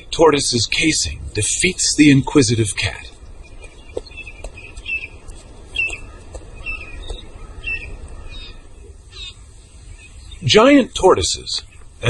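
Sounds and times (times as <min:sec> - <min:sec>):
birds chirping: 0:00.0 - 0:12.0
faint outdoor ambience: 0:00.0 - 0:12.0.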